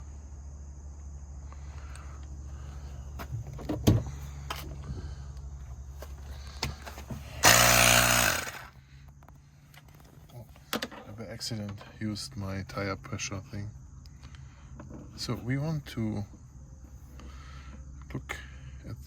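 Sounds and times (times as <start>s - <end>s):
vehicle engine humming: 0.0s - 18.8s.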